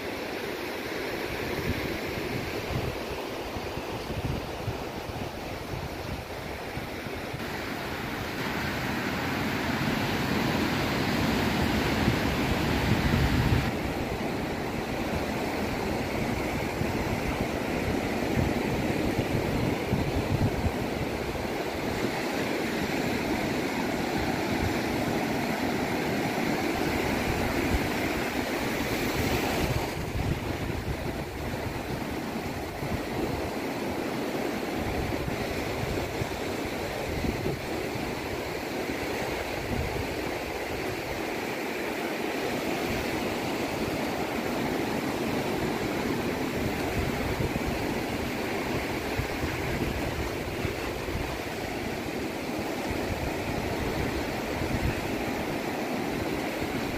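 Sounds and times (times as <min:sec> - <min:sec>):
surf breaking on beach: 0:00.0 - 0:56.9
wind buffeting microphone: 0:01.3 - 0:08.5, 0:09.4 - 0:33.7, 0:34.7 - 0:41.2, 0:45.1 - 0:56.9.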